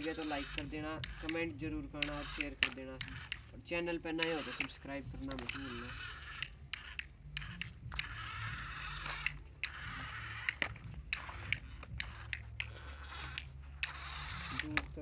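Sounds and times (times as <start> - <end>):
small electric motors humming: 0.0 - 15.0
wheels crunching over dirt: 0.0 - 15.0.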